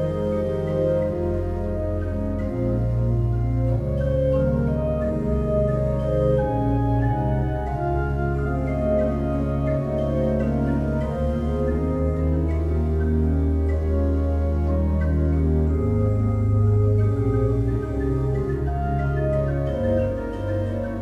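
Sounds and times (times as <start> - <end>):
organ music: 0.0 - 21.0.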